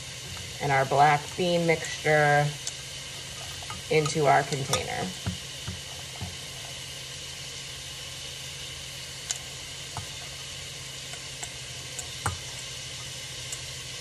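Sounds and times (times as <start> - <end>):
beef sizzling in a pan: 0.0 - 14.0.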